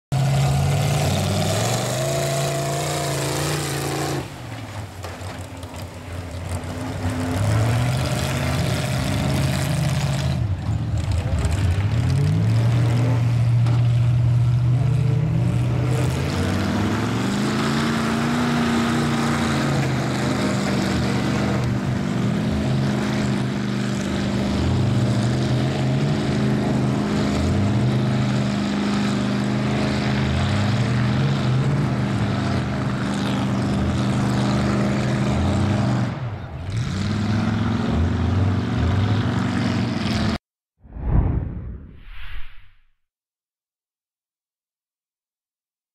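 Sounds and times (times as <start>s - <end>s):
truck engine revving hard: 0.1s - 4.4s, 6.4s - 40.4s
tires churning mud: 0.1s - 40.4s.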